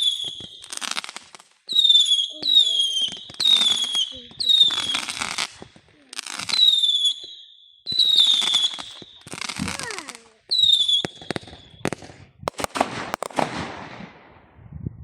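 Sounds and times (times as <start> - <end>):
firework whistles: 0.0 - 12.1
firework bangs and crackling: 0.0 - 14.9.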